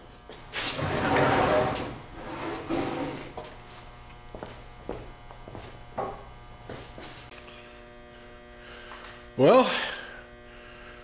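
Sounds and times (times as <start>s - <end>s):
electrical buzzing hum: 0.0s - 11.0s.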